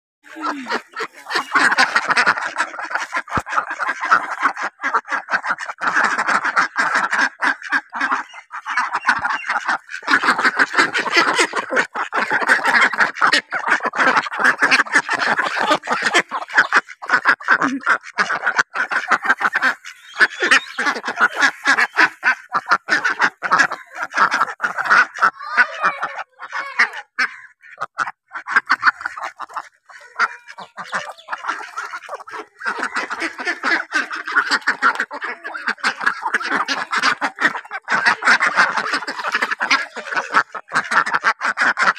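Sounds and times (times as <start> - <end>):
ducks quacking: 0.3 - 41.9.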